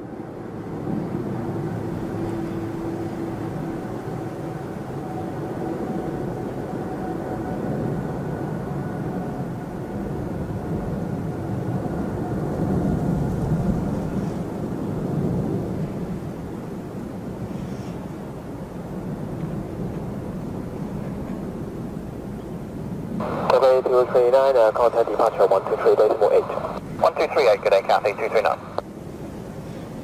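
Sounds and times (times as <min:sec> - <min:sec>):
distant jet engine rumble: 0:00.0 - 0:30.0.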